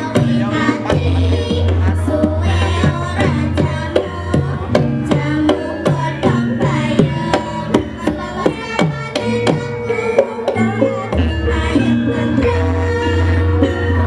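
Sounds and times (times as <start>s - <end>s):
gamelan ensemble playing: 0.0s - 14.0s.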